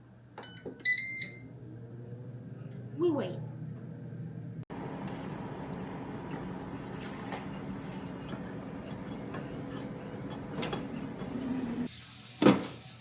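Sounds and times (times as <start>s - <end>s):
air fryer fan hum: 0.2s - 11.9s.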